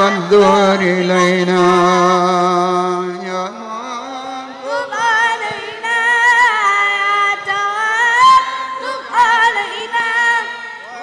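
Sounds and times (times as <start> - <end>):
person singing with vibrato: 0.0 - 11.0.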